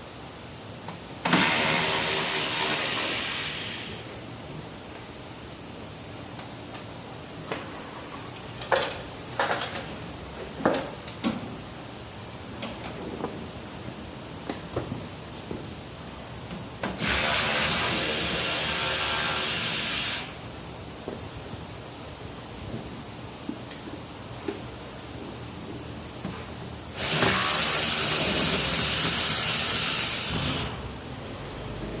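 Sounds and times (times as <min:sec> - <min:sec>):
loud steady hiss: 0:00.0 - 0:32.0.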